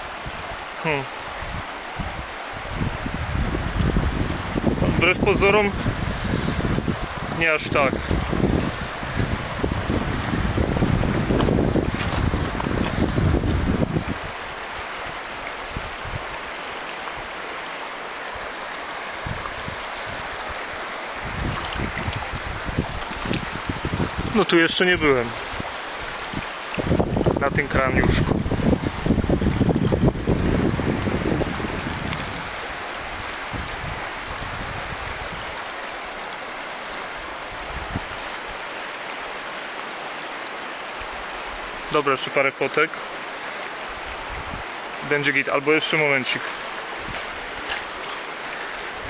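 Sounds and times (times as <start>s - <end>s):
wind buffeting microphone: 0.0s - 17.5s, 18.2s - 39.2s, 43.3s - 45.0s, 46.5s - 49.0s
river water rushing: 0.0s - 49.0s.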